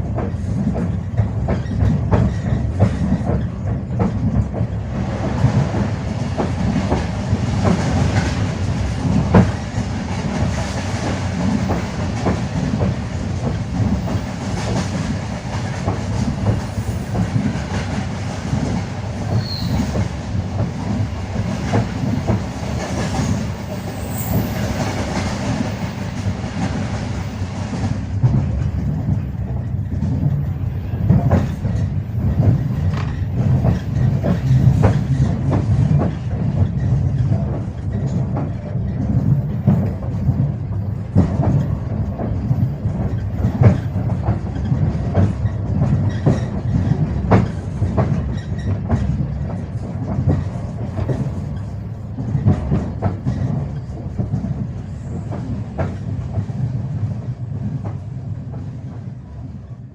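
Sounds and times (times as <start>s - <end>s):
train wheels clattering: 0.0s - 59.3s.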